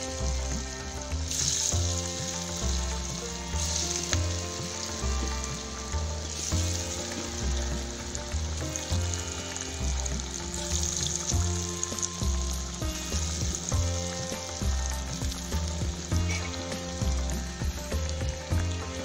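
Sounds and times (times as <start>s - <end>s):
fritters sizzling in hot oil: 0.0s - 19.0s
music with bass beat: 0.0s - 19.0s.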